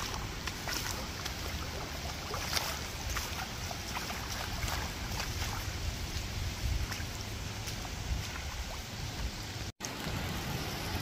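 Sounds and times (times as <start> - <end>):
rain drops ticking: 0.0 - 11.0
wind rumbling on microphone: 0.0 - 11.0.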